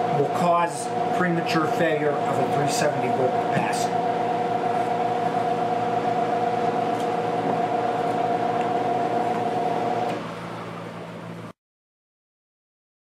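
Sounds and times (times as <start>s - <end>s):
furnace blower motor humming: 0.0s - 11.5s.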